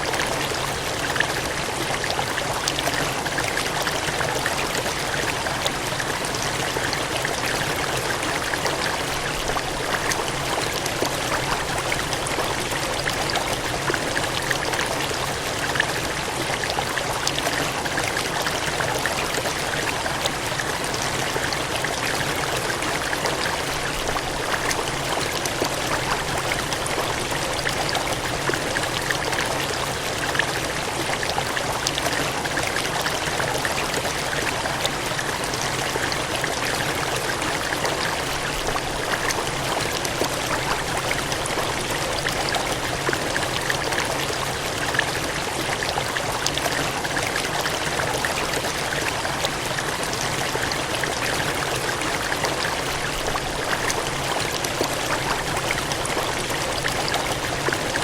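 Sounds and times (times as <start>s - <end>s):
gushing water: 0.0s - 58.0s.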